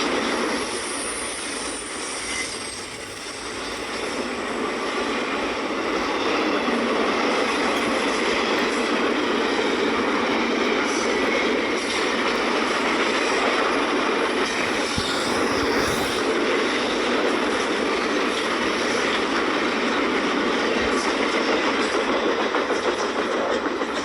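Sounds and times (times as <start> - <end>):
clickety-clack over rail joints: 0.0 - 24.0
steel wheels on rails: 0.0 - 24.0.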